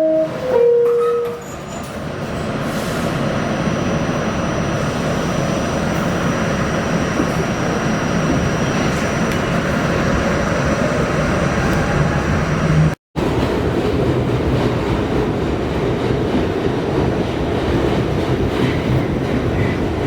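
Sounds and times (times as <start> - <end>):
subway train rumbling on track: 0.0 - 20.0.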